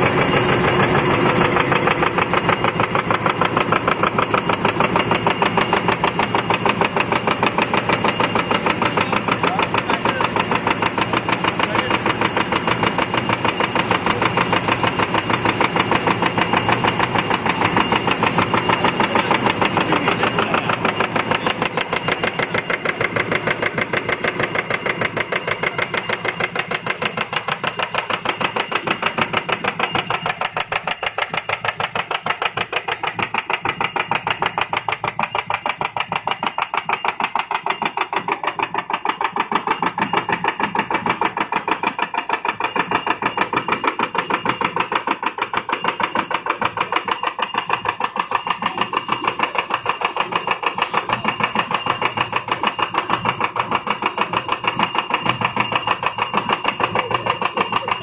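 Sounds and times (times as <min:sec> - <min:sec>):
punching machine clattering: 0:00.0 - 0:58.0.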